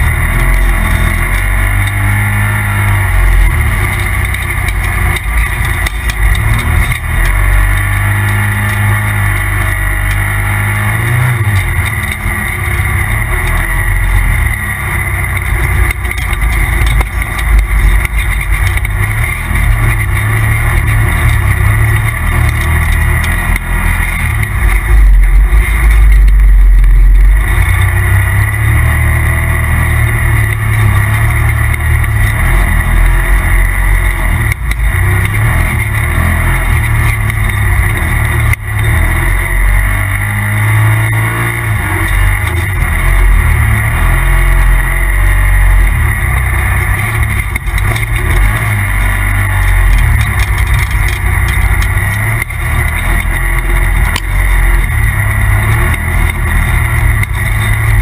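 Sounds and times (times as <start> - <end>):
deep rumble: 0.0 - 58.0
off-road vehicle engine revving: 0.0 - 58.0.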